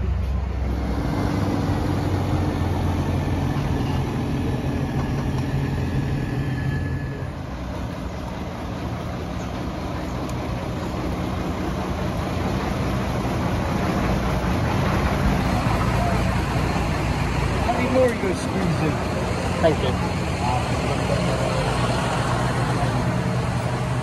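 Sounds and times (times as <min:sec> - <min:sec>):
heavy vehicle engines droning: 0:00.0 - 0:24.0
road traffic passing: 0:00.0 - 0:24.0.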